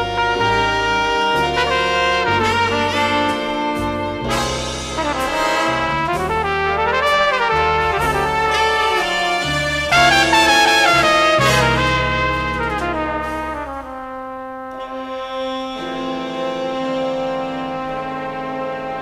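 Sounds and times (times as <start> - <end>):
big band accompaniment: 0.0 - 19.0
flugelhorn playing jazz ballad: 0.0 - 19.0.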